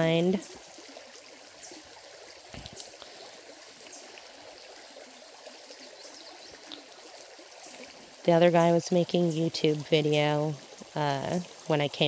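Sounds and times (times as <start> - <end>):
creek water babbling over rocks: 0.0 - 12.0.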